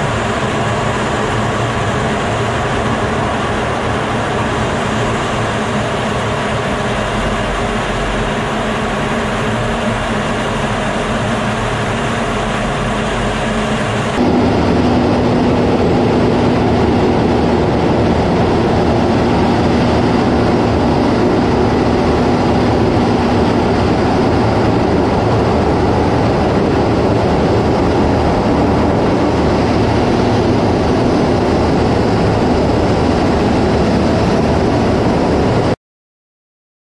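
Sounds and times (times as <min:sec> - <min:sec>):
jet cockpit engine rush: 0:00.0 - 0:35.8.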